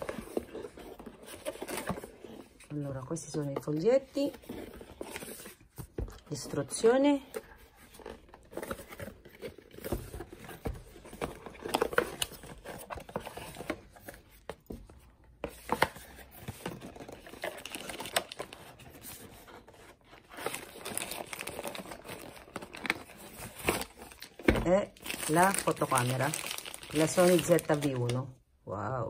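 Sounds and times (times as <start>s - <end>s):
cardboard and paper rustling: 0.0s - 28.4s.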